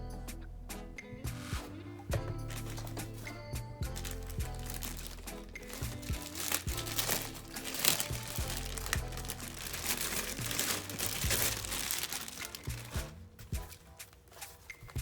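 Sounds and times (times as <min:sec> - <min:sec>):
background music: 0:00.0 - 0:15.0
plastic packaging crinkling: 0:02.5 - 0:15.0.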